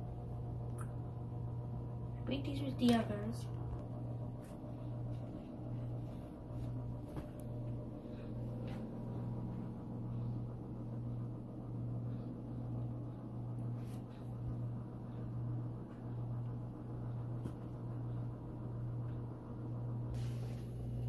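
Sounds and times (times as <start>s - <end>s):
pulsing low hum: 0.0s - 21.0s.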